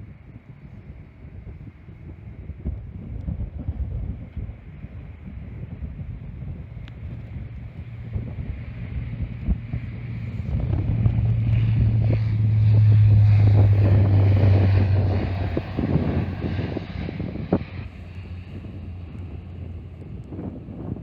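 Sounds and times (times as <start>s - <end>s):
wind buffeting microphone: 0.0s - 21.0s
airliner engines humming: 3.7s - 21.0s.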